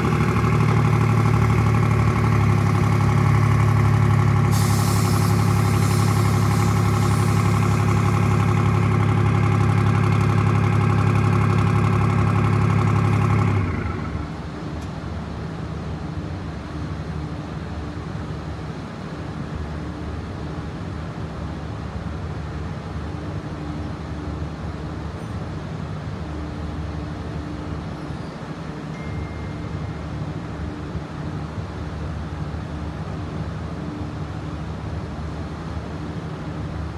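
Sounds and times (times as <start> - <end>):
tracked vehicle engine idling: 0.0 - 36.9.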